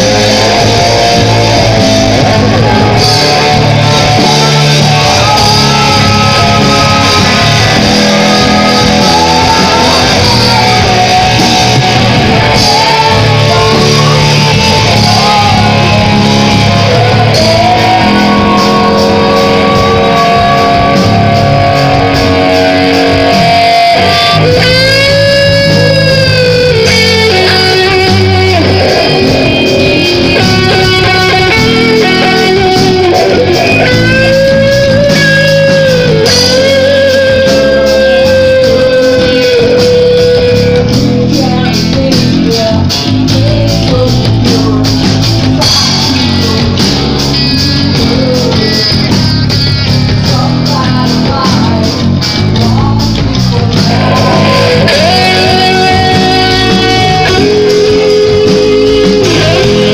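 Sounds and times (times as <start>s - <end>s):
band music with guitar: 0.0s - 59.9s.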